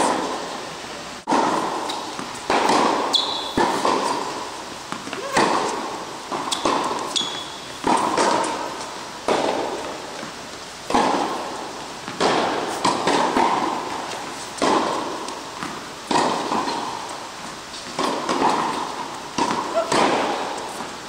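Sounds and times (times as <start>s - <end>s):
tennis ball bouncing: 0.0s - 0.5s, 1.2s - 21.0s
tennis ball struck by rackets: 0.0s - 0.5s, 1.2s - 21.0s.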